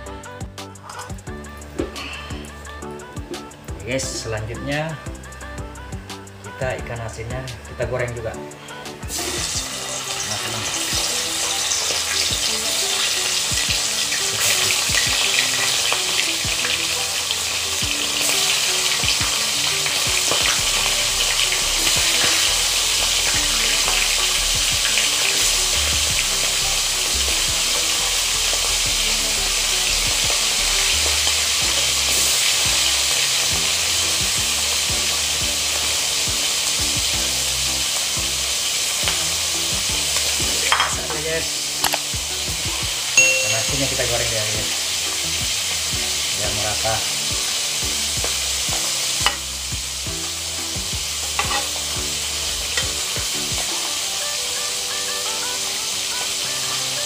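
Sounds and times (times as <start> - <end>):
fish sizzling in hot oil: 0.1 - 57.0.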